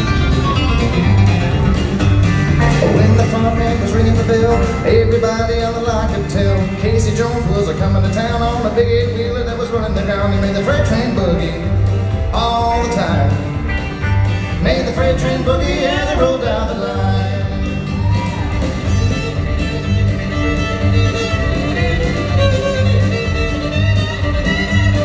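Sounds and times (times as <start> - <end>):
country band playing: 0.0 - 25.0
fiddle: 0.0 - 25.0.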